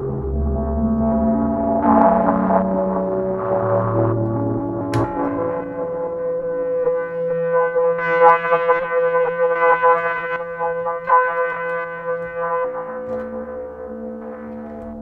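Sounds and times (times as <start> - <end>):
synthesizer horn-like drone: 0.0 - 15.0.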